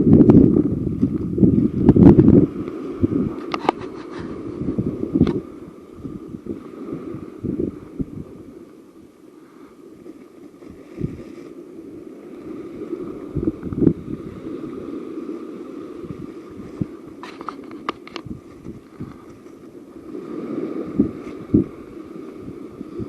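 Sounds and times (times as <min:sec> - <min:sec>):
wind buffeting microphone: 0:00.0 - 0:09.2, 0:09.9 - 0:23.0.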